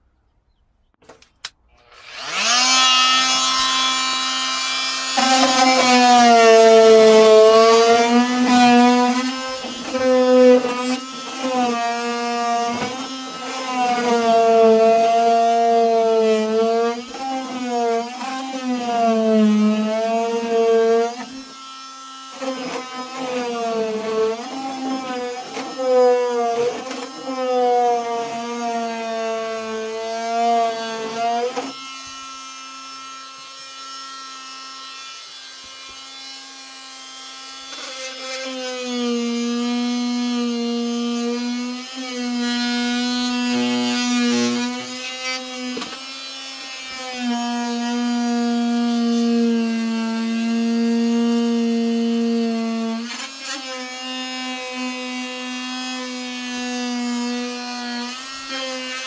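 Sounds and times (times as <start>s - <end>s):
oscillating multi-tool buzzing: 1.7s - 59.0s.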